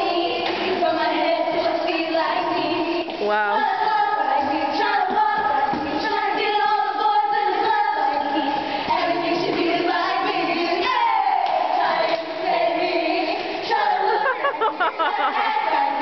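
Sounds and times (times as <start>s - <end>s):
pop song with female vocals: 0.0s - 16.0s.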